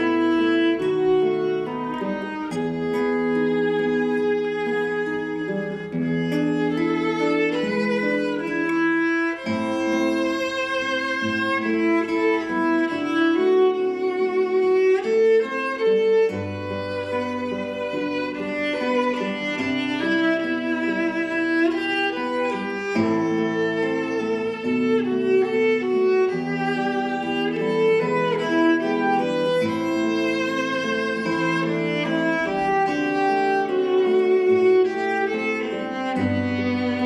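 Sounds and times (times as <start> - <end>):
bowed violin melody: 0.0 - 37.0
classical guitar accompaniment: 0.0 - 37.0.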